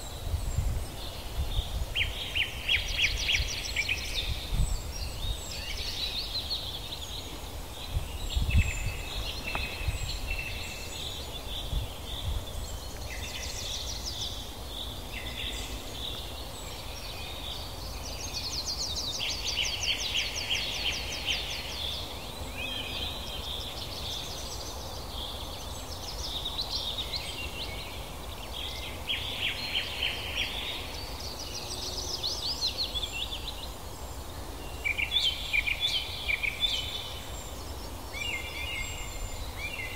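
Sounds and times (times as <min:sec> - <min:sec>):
background hiss: 0:00.0 - 0:39.9
birds singing and trilling: 0:00.0 - 0:39.9.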